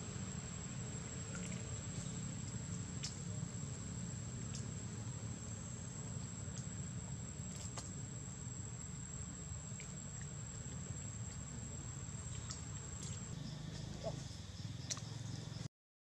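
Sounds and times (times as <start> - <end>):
low steady hum: 0.0 - 15.7.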